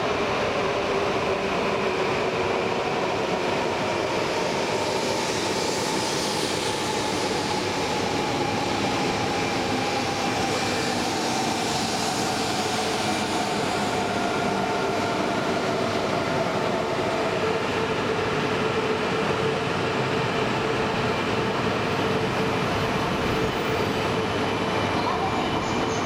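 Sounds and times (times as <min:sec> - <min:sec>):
train whine: 0:00.0 - 0:26.0.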